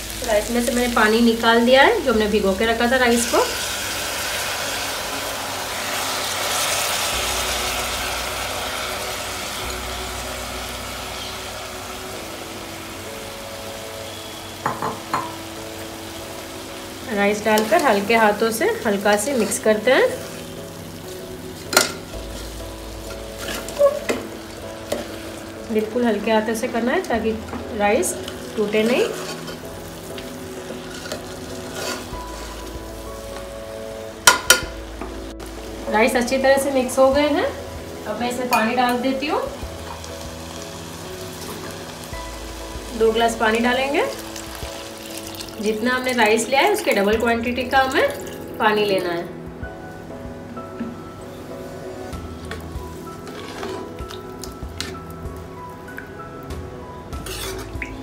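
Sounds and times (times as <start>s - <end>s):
oil sizzling in a frying pan: 0.0s - 50.3s, 51.2s - 58.0s.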